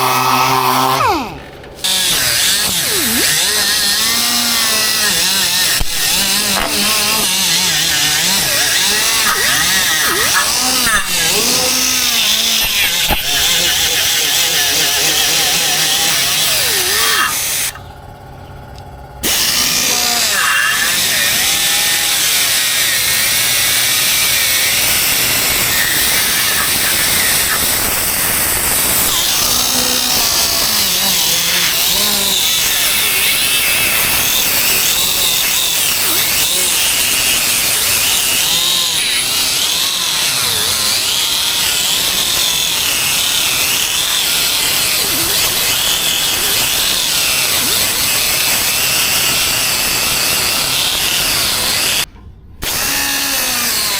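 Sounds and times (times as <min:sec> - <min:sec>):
power sander running: 0:00.0 - 0:53.9.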